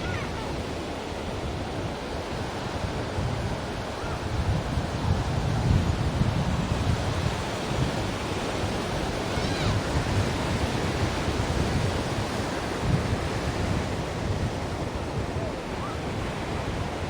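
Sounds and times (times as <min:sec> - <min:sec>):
ocean surf washing ashore: 0:00.0 - 0:17.0.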